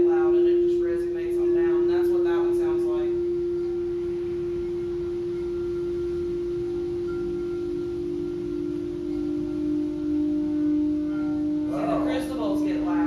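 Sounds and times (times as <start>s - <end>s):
crystal singing bowl tone: 0.0s - 13.0s.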